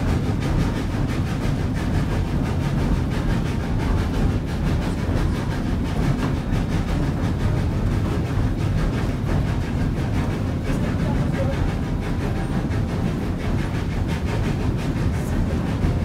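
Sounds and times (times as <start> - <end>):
train rumble and clatter: 0.0 - 16.0.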